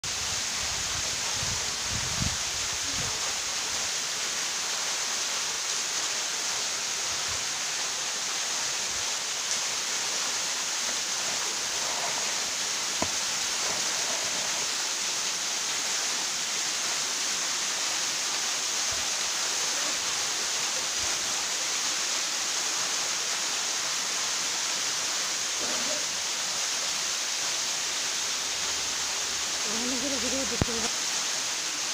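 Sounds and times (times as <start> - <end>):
waterfall splashing into pool: 0.0 - 31.9.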